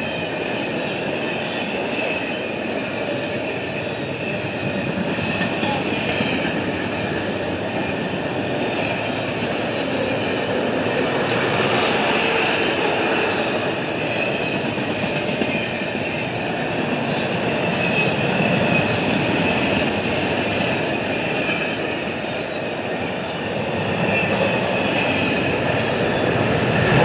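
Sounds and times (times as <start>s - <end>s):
train wheels rolling on rails: 0.0s - 27.0s.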